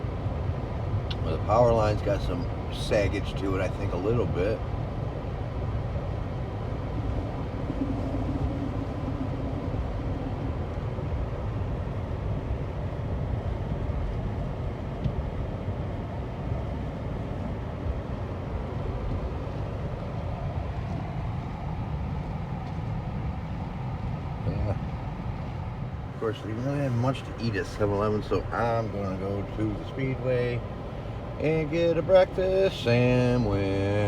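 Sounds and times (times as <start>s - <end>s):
car engine hum: 0.0s - 22.2s, 23.0s - 34.0s
road and tyre noise: 0.0s - 34.0s.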